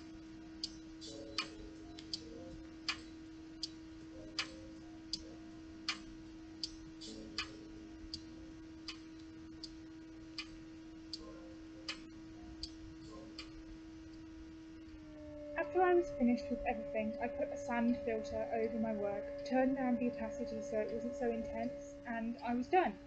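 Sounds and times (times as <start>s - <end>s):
laptop fan humming: 0.0s - 23.0s
regular sharp ticks: 0.0s - 23.0s.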